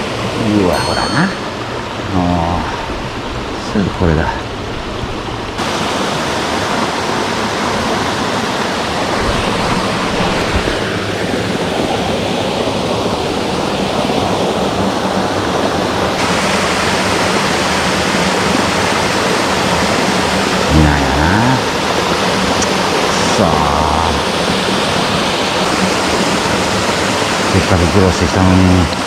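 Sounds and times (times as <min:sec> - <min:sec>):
stream water pouring over dam: 0:01.4 - 0:14.2, 0:16.1 - 0:29.0.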